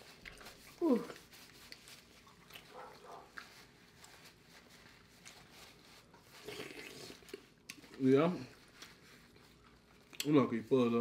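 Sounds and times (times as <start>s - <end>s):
chewing: 0.0s - 4.4s, 5.2s - 10.4s.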